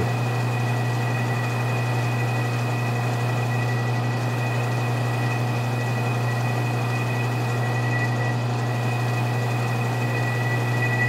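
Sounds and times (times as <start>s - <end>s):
metal lathe humming and whining: 0.0s - 11.0s.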